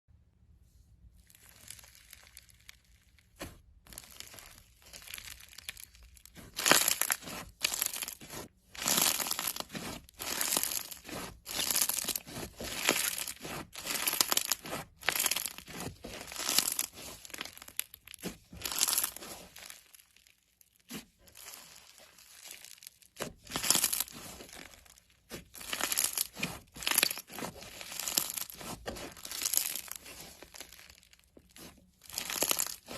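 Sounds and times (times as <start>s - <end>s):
slime crackling and popping: 1.1s - 32.9s.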